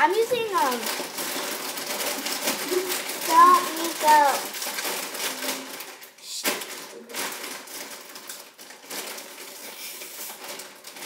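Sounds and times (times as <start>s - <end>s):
chip bag crinkling: 0.0s - 11.0s.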